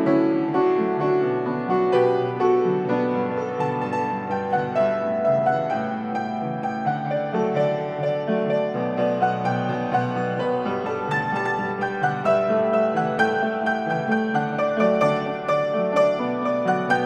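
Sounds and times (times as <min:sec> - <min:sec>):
solo upright piano: 0:00.0 - 0:17.0.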